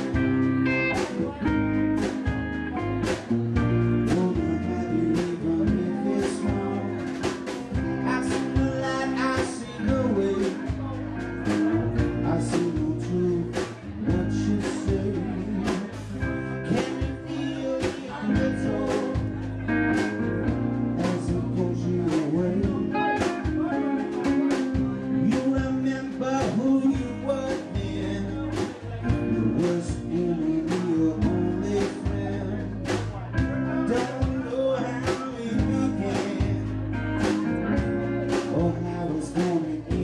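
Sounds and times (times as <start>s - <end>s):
acoustic guitar: 0.0s - 40.0s
bass guitar: 0.0s - 40.0s
drum kit beat: 0.0s - 40.0s
electric guitars: 0.0s - 40.0s.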